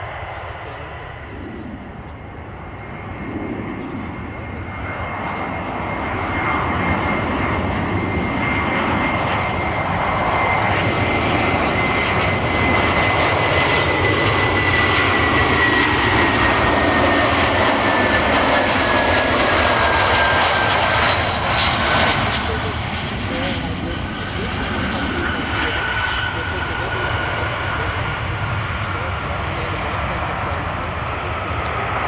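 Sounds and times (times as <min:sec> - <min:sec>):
jet airliner passing: 0:00.0 - 0:32.0.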